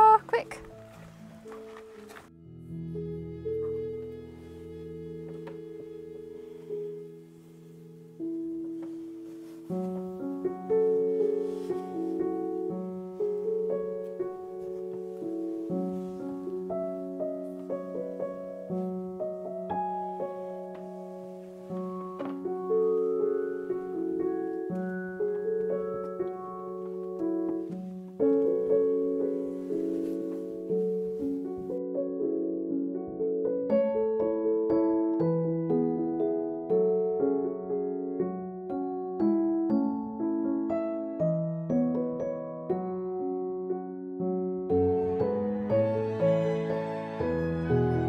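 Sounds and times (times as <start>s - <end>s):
slow piano melody: 0.0s - 48.0s.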